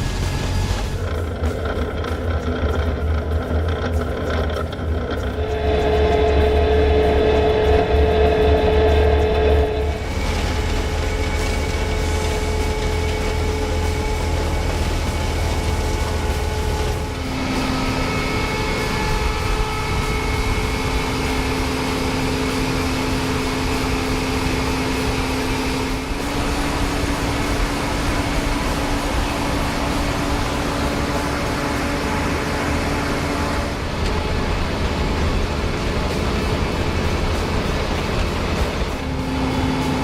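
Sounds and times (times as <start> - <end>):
mechanical whine: 0.0 - 40.0
tractor engines running: 0.0 - 40.0.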